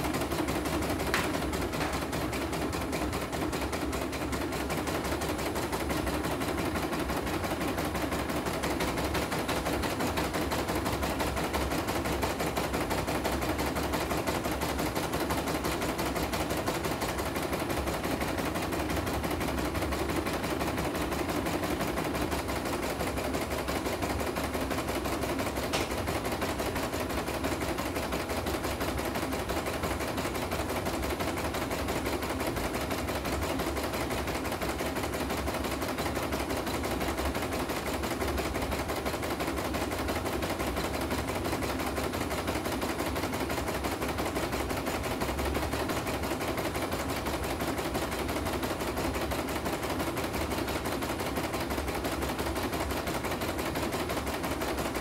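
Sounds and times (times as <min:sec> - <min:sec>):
embroidery machine needle clatter: 0:00.0 - 0:55.0.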